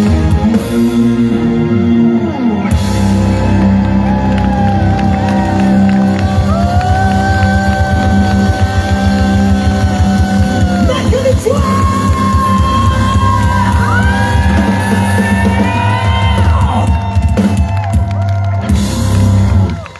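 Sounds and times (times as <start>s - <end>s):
live rock band: 0.0s - 19.9s.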